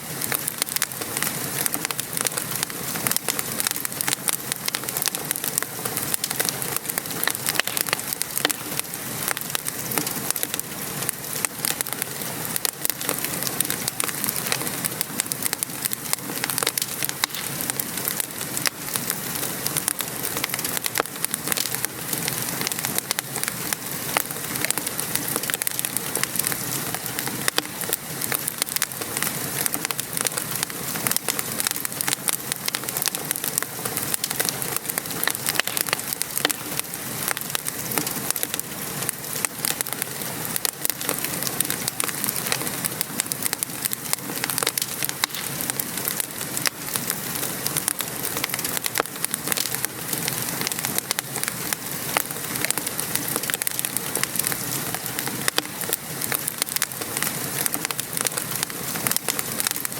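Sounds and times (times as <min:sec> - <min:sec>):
rain pattering: 0:00.0 - 0:59.9
wood fire crackling: 0:00.0 - 0:59.9.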